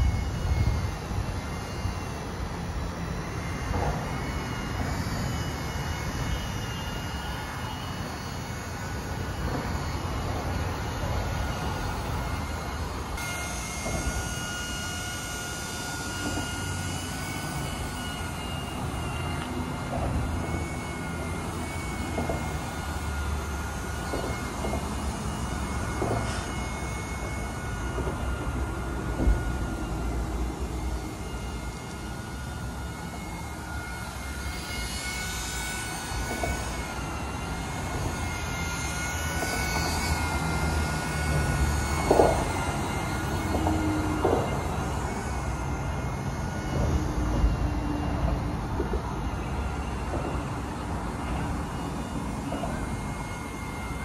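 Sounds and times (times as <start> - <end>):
rotor hum: 0.0 - 54.0
toy helicopter motor whine: 0.0 - 54.0.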